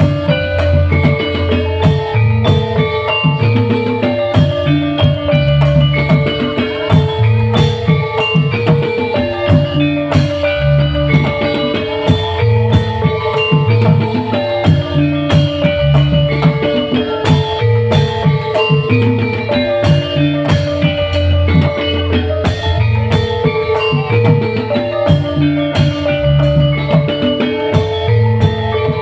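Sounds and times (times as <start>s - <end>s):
bass: 0.0s - 29.0s
drums keeping a beat: 0.0s - 29.0s
plucked string instruments: 0.0s - 29.0s.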